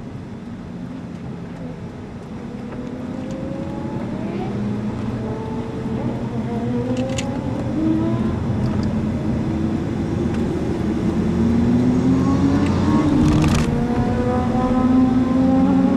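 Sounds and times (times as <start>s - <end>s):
car engine accelerating hard: 2.4s - 15.9s.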